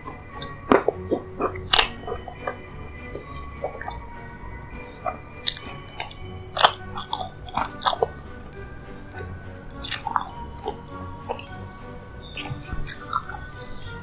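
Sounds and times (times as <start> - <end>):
crackling bites and chewing: 0.0 - 4.2, 5.0 - 11.8, 12.4 - 13.8
soft background music: 0.0 - 14.0.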